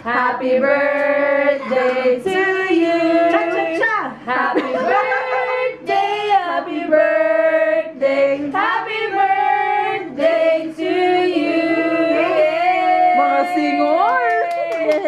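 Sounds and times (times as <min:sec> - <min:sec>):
women and children singing: 0:00.0 - 0:15.0.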